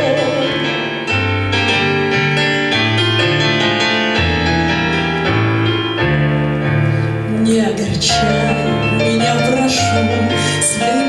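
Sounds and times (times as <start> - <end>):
grand piano playing chords: 0.0 - 11.0.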